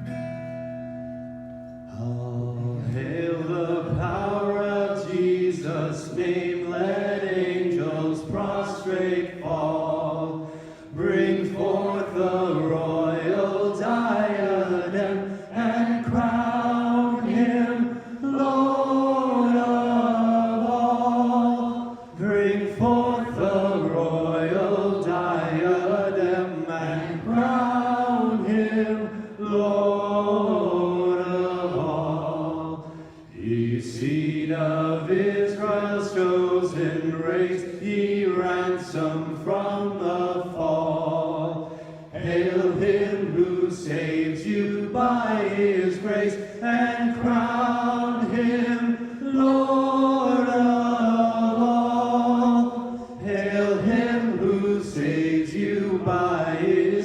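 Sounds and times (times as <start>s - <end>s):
congregation singing a hymn: 2.0s - 57.0s.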